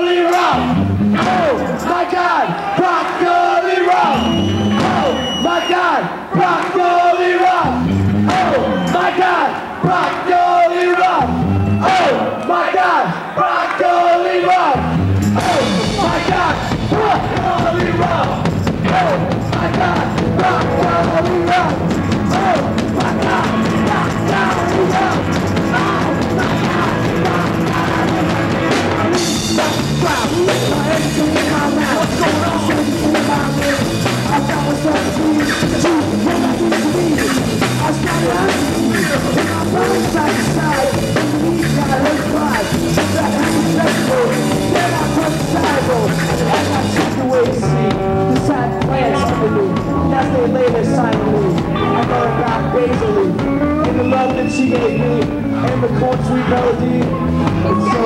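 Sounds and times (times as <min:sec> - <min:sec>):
rock band playing live: 0:00.0 - 0:02.7, 0:03.8 - 0:06.4, 0:07.6 - 0:10.2, 0:11.2 - 0:12.3, 0:14.8 - 0:58.0.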